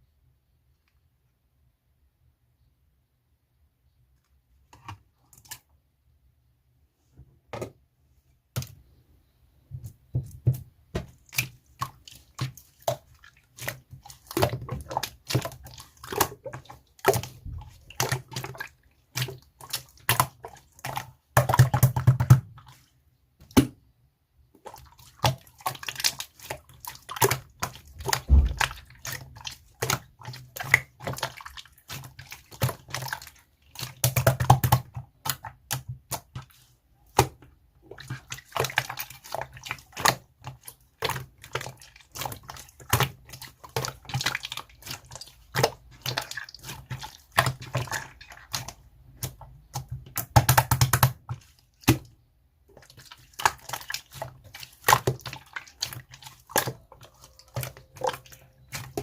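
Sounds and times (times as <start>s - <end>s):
slime squelching and popping: 9.8s - 23.8s, 24.5s - 59.0s.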